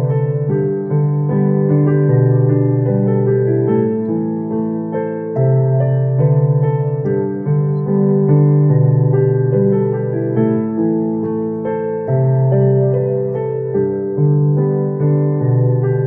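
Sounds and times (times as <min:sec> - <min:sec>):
electronic keyboard ballad: 0:00.0 - 0:16.0.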